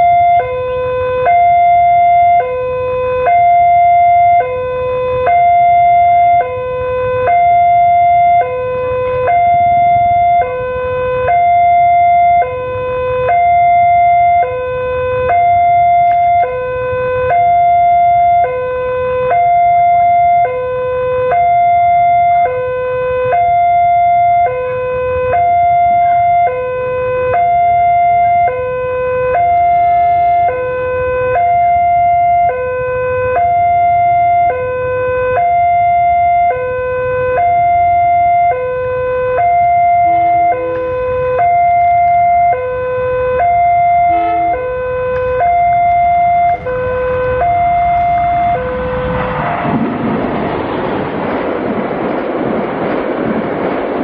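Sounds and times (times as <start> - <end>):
two-tone railway crossing alarm: 0.0 - 50.2.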